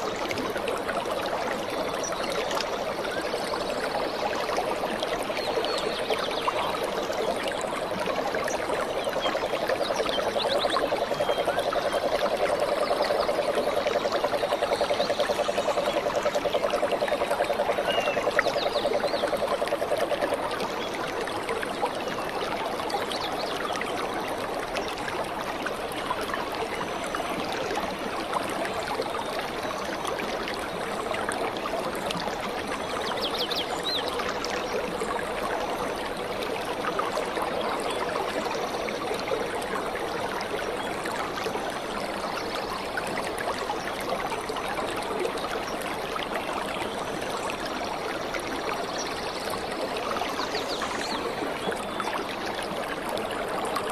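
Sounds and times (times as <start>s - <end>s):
stream trickling over rocks: 0.0s - 53.9s.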